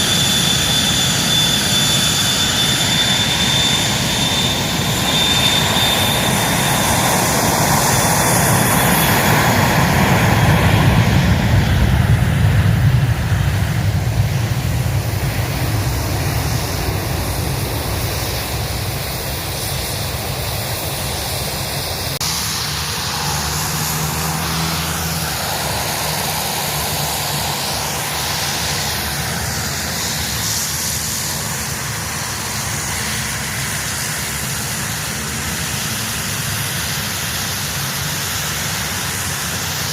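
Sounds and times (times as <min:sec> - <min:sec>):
plane flying past: 0:00.0 - 0:39.9.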